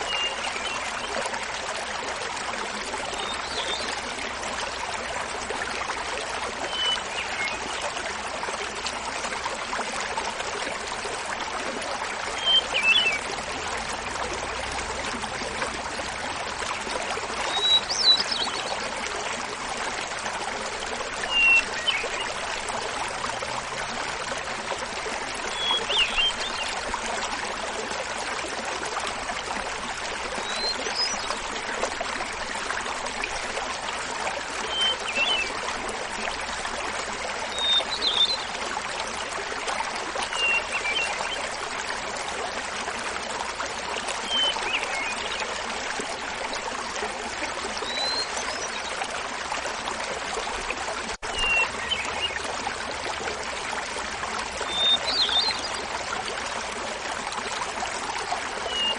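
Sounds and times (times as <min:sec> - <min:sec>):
small waterfall splashing: 0:00.0 - 0:58.9.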